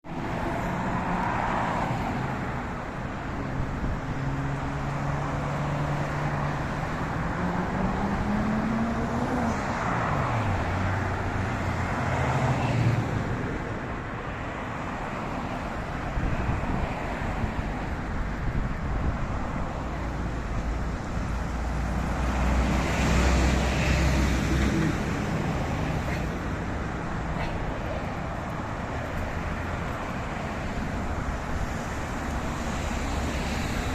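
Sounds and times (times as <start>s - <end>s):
street traffic passing: 0.0s - 33.9s.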